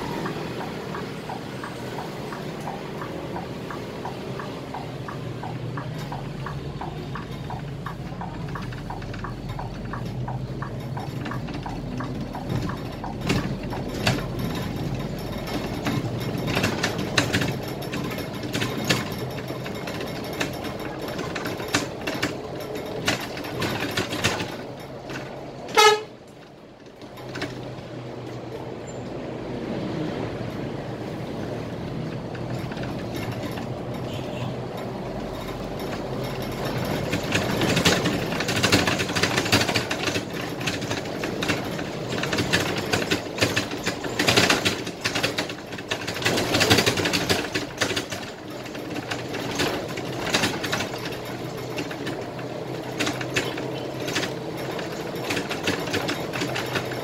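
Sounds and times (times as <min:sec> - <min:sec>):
bus fittings rattling: 0:00.0 - 0:29.4, 0:30.3 - 0:57.0
bus engine running: 0:00.0 - 0:57.0.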